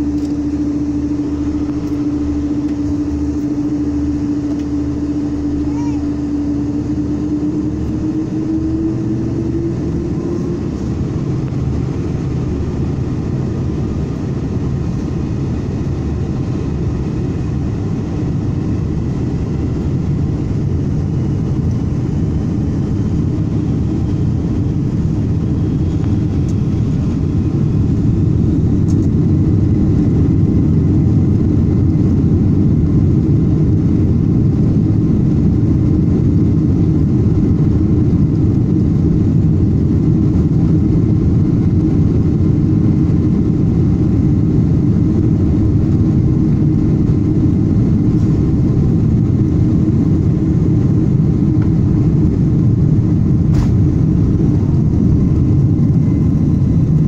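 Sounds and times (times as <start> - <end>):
jet engine rumble from cabin: 0.0 - 57.0
jet engine whine: 0.0 - 57.0.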